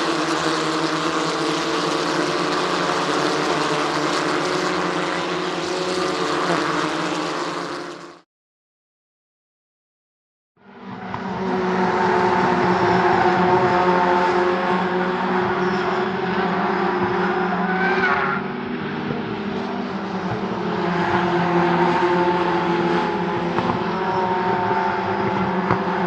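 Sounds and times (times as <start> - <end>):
racing car engines running: 0.0 - 8.2, 10.6 - 26.0.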